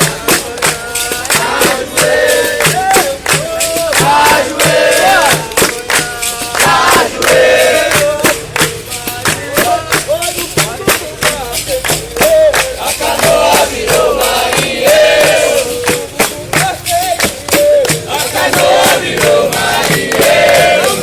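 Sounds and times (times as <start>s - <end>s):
group singing and chanting: 0.0s - 21.0s
percussion steady beat: 0.0s - 21.0s.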